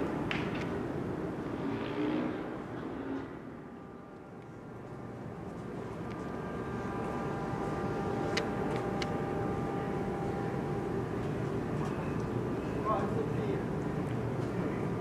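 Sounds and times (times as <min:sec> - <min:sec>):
engine rumble: 0:00.0 - 0:15.0
steady whine: 0:00.0 - 0:15.0.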